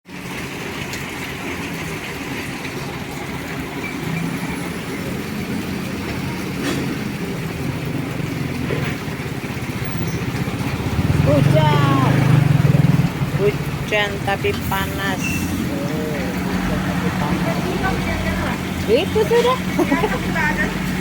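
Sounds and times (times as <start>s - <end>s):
road noise hiss: 0.1s - 21.0s
vehicle engine running: 0.2s - 21.0s.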